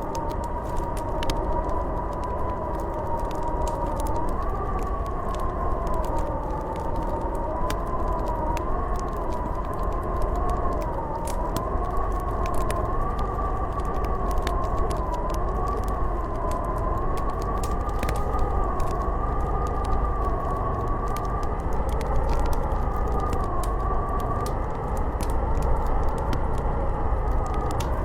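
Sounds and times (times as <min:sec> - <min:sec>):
howling blizzard wind: 0:00.0 - 0:28.0
wood fire crackling: 0:00.0 - 0:28.0.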